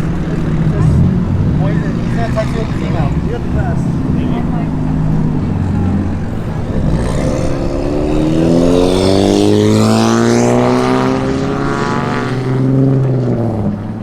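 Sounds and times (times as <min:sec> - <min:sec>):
car engine accelerating: 0:00.0 - 0:14.0
low engine drone: 0:00.0 - 0:14.0.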